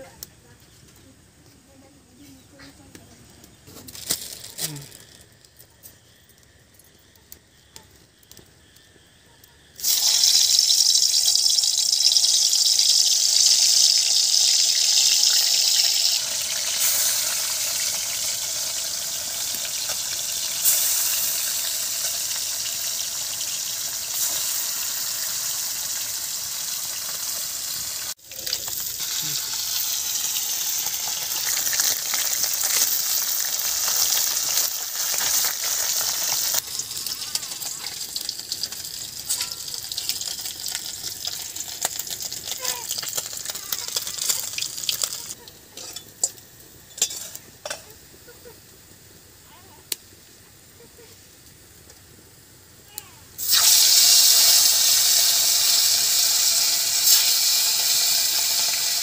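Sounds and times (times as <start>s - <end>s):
fish sizzling in hot oil: 7.5s - 50.3s, 51.3s - 59.0s.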